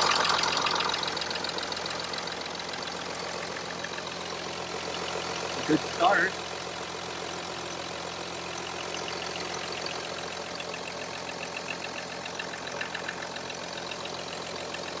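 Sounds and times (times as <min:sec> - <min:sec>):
diesel engine idling with clatter: 0:00.0 - 0:15.0.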